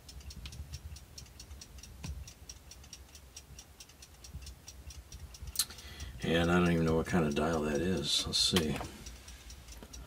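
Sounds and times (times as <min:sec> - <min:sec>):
mechanical clock ticking: 0:00.0 - 0:10.0.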